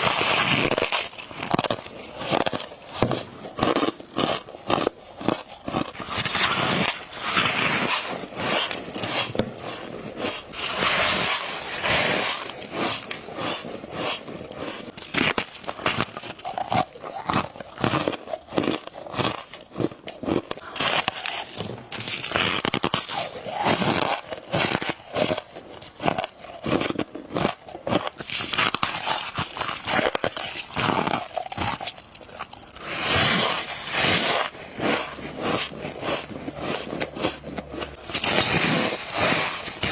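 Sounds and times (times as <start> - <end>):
biting and chewing crunches: 0.0 - 39.9.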